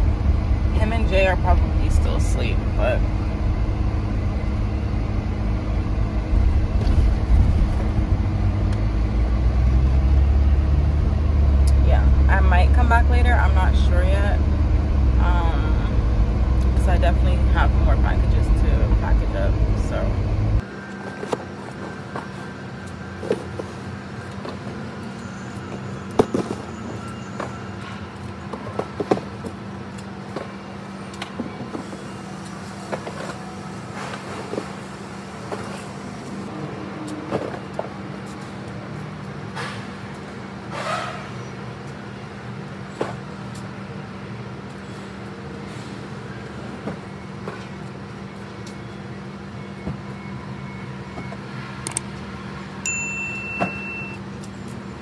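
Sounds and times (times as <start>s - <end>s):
car engine and road hum: 0.0s - 55.0s.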